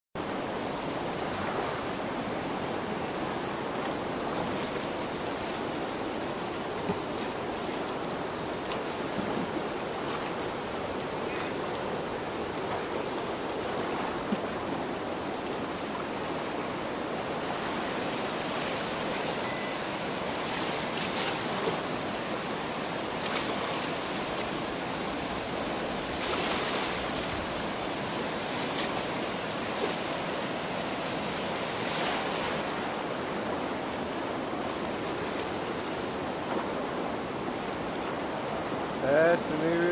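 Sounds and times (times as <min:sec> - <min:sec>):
river water rushing over rocks: 0:00.2 - 0:39.9.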